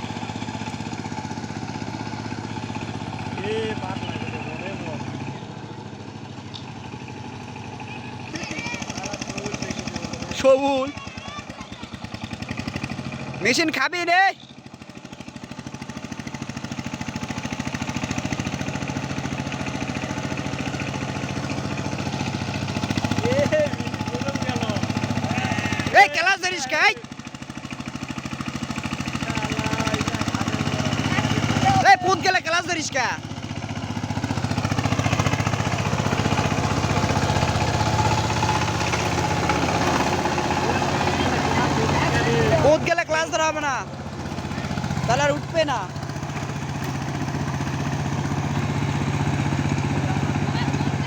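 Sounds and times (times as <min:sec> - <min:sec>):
diesel engine chugging: 0:00.0 - 0:51.0.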